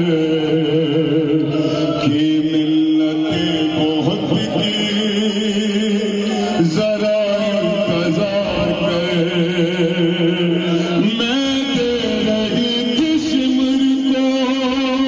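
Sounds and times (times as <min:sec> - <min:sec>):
chant-like mourning music: 0:00.0 - 0:15.0.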